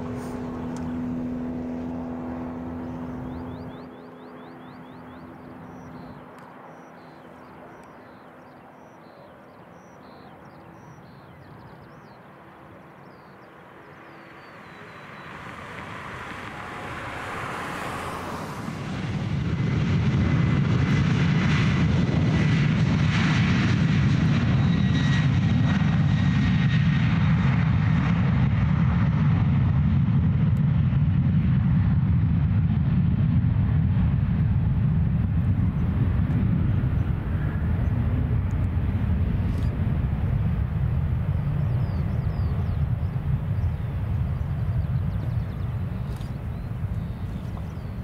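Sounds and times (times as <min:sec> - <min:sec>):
faint engine whine: 0:00.0 - 0:48.0
jet engines rumbling: 0:00.0 - 0:48.0.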